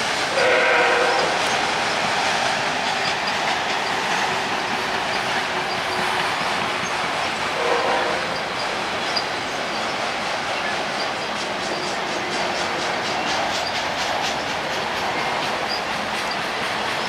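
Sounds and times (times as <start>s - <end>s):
train wheels roaring on rail: 0.0s - 17.0s
wheels clickety-clack: 1.0s - 17.0s.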